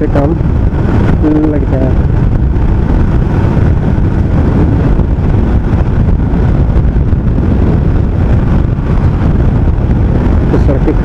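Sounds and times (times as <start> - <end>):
wind buffeting on microphone: 0.0 - 11.0.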